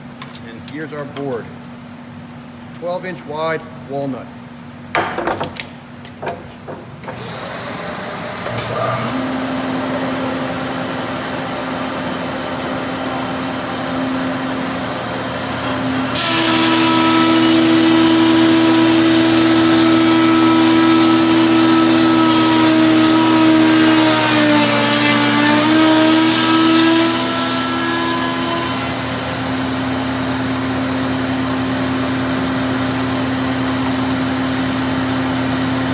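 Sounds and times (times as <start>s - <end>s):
dust collector whine: 7.0s - 35.9s
planer humming: 7.0s - 35.9s
planer cutting wood: 7.1s - 35.9s.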